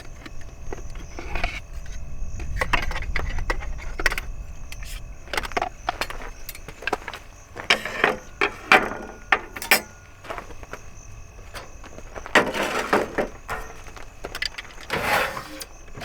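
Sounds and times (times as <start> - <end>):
hard objects clicking and clattering: 0.0 - 10.8, 11.4 - 16.0.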